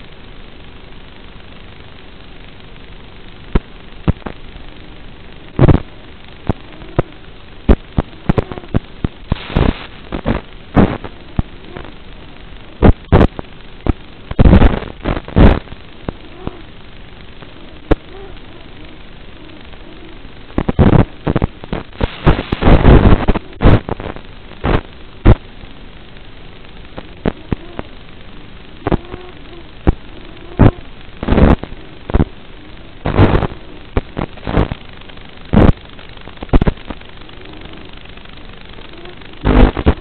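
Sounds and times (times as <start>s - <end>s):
static hiss with crackling pops: 0.0s - 40.0s.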